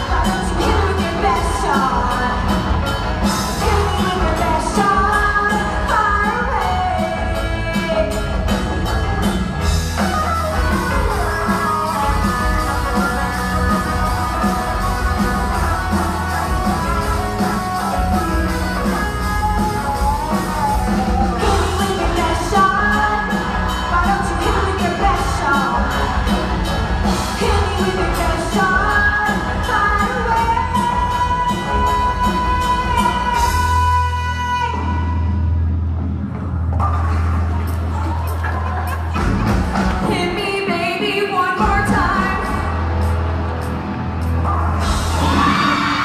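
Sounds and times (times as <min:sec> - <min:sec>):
upbeat pop backing track: 0:00.0 - 0:46.0.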